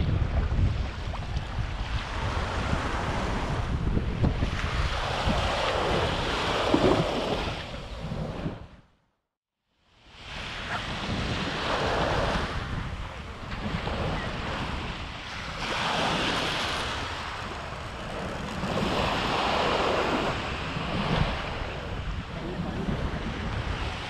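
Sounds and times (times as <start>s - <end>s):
small waves washing on sand: 0.0s - 8.7s, 10.0s - 24.0s
wind buffeting microphone: 0.0s - 8.8s, 10.2s - 24.0s.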